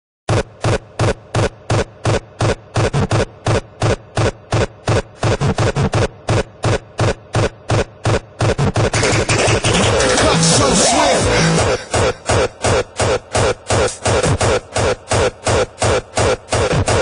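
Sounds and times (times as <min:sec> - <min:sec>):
distorted kick drum pounding: 0:00.3 - 0:17.0.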